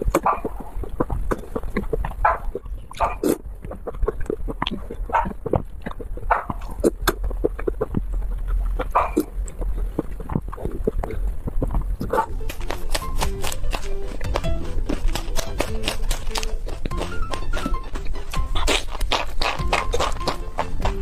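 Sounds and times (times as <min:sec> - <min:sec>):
noodles slurping: 0:00.0 - 0:21.0
wet chewing and lip smacks: 0:00.0 - 0:21.0.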